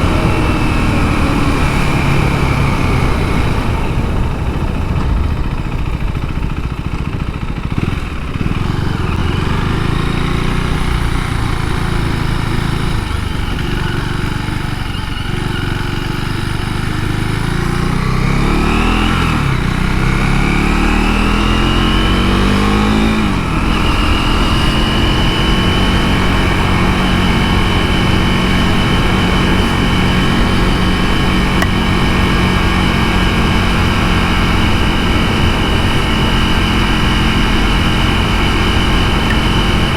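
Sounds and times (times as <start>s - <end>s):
motorcycle engine running and revving: 0.0s - 39.9s.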